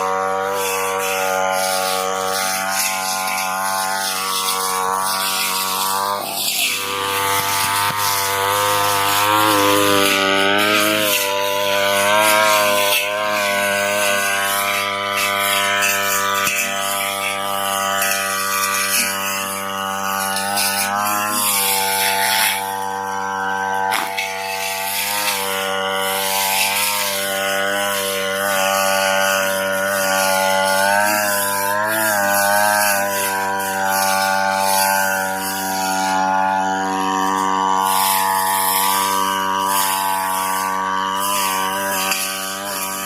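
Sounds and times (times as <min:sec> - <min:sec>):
blade cutting grass: 0:00.0 - 0:43.0
brush cutter engine at full throttle: 0:00.0 - 0:43.0.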